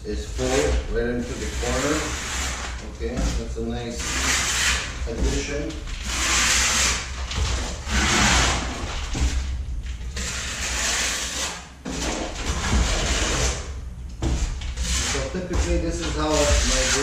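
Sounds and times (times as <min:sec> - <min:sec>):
trowel scraping mortar: 0:00.3 - 0:09.0, 0:10.1 - 0:13.7, 0:14.3 - 0:17.0.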